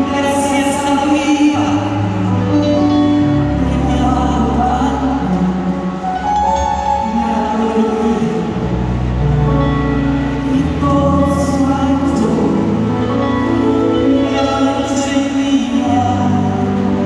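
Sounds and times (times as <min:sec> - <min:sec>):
orchestra of strings and guitars: 0:00.0 - 0:17.0.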